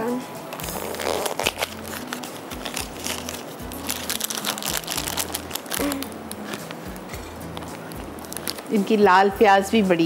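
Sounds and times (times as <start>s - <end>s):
background music with low beat: 0.0s - 10.0s
spice packet crinkling: 0.6s - 8.8s.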